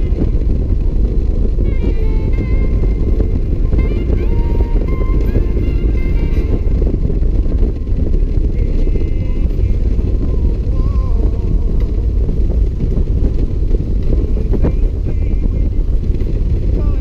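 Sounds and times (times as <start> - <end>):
motorcycle engine drone: 0.0 - 17.0
wind rumble on microphone: 0.0 - 17.0.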